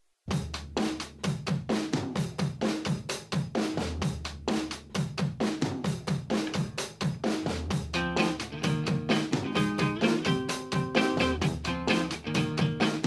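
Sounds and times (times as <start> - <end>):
drum kit playing fast beat: 0.3 - 13.0.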